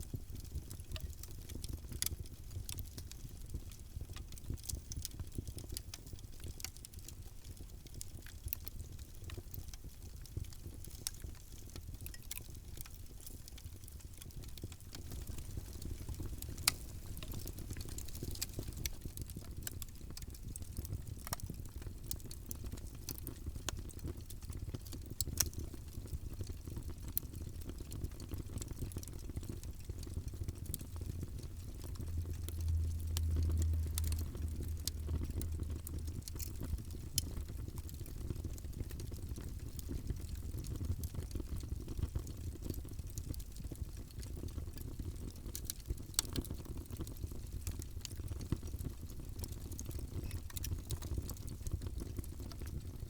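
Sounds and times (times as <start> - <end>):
low rumble of flames: 0.0 - 53.0
wood fire pops and snaps: 10.3 - 52.9.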